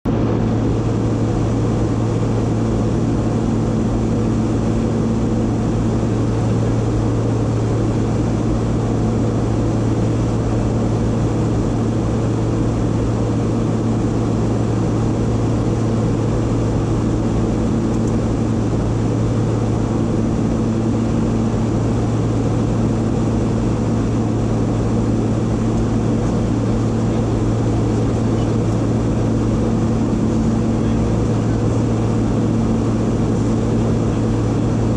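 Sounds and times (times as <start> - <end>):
jet engines and airflow drone: 0.0 - 34.9.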